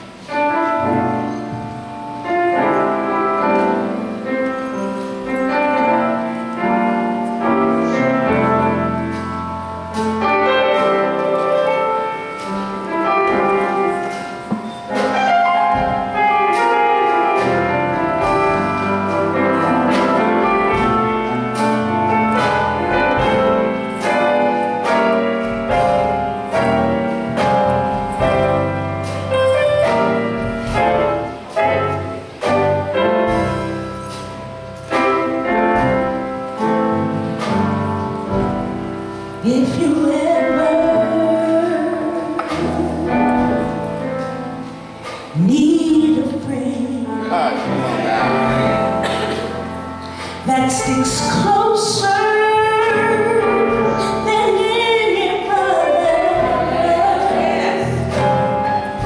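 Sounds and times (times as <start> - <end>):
gospel piano playing: 0.0 - 59.0.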